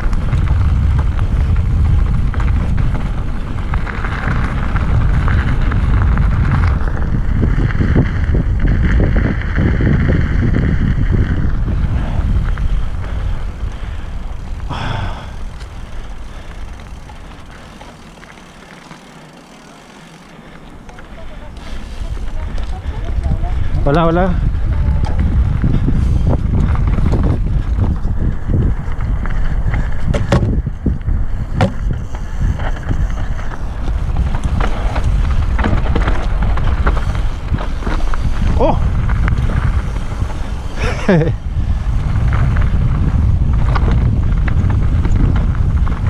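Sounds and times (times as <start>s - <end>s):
bike rattle and tyre noise: 0.0s - 46.0s
wind rumbling on microphone: 0.0s - 46.0s.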